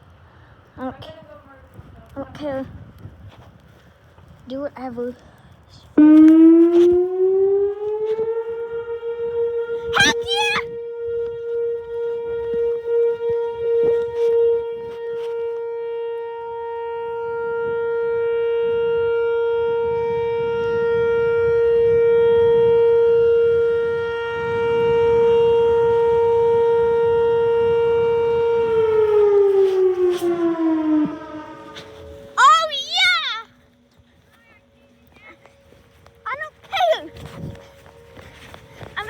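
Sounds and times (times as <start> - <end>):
tornado warning siren: 5.9 - 39.0.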